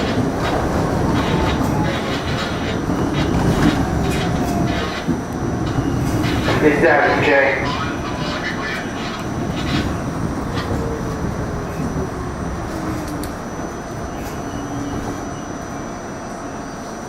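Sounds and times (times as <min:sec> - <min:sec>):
subway car rumbling on rails: 0:00.0 - 0:17.0.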